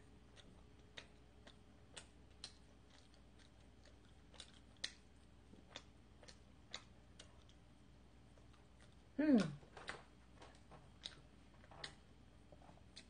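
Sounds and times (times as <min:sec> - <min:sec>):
wet mouth clicks chewing: 0:00.3 - 0:07.6, 0:08.3 - 0:12.0.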